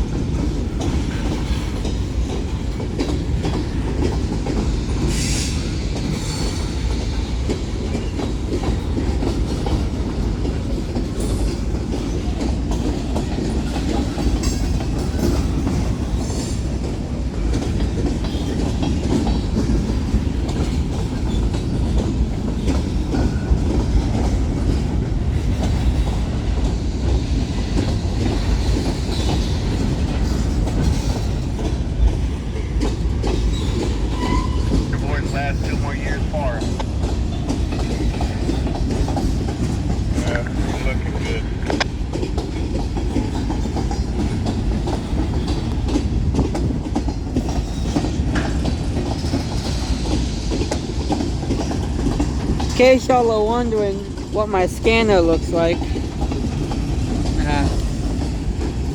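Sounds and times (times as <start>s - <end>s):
freight train rumbling: 0.0s - 58.9s
wheels clacking over rail joints: 0.0s - 58.9s.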